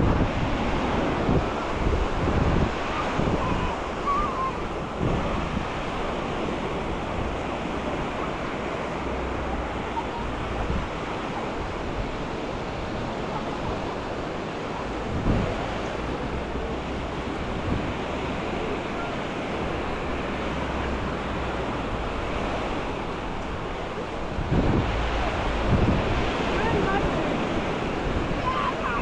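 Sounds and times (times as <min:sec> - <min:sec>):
sea waves washing on shore: 0:00.0 - 0:29.0
wind buffeting microphone: 0:00.0 - 0:29.0.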